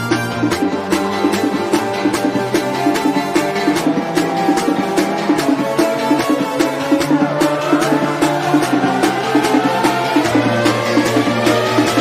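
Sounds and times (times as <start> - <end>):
background music with percussion: 0.0 - 12.0.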